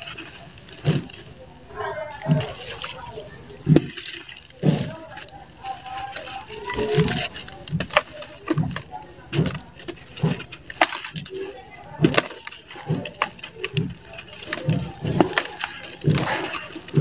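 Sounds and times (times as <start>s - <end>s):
dirt clumps crunching: 0.0s - 17.0s
pieces plopping into water: 0.0s - 17.0s.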